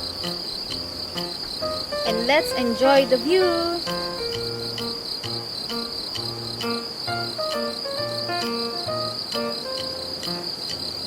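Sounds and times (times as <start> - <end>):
crickets trilling: 0.0 - 11.0
soft background music: 0.0 - 11.0.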